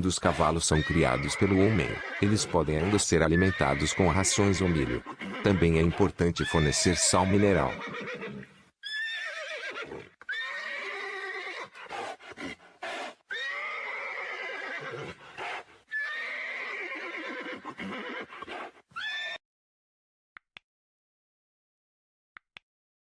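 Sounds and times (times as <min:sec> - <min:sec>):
horses neighing: 0:00.0 - 0:19.4.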